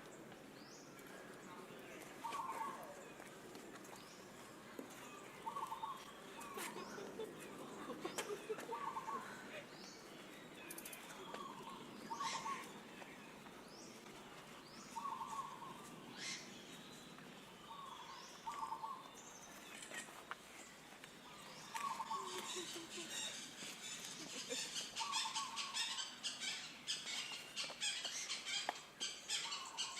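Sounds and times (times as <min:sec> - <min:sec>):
background hiss: 0:00.0 - 0:29.9
birds chirping high: 0:00.1 - 0:03.3, 0:03.9 - 0:29.9.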